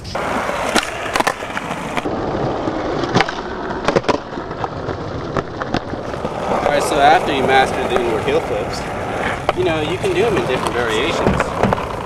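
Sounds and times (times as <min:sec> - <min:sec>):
skateboard wheels rolling on pavement: 0:00.0 - 0:12.0
skateboard tail clacks: 0:00.2 - 0:02.1, 0:02.9 - 0:12.0.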